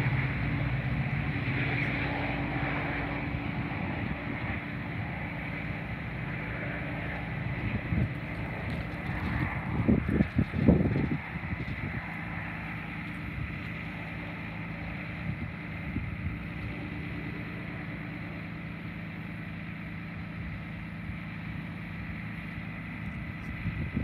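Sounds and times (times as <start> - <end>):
distant locomotive engine hum: 0.0 - 24.0
faint high whine: 0.0 - 24.0.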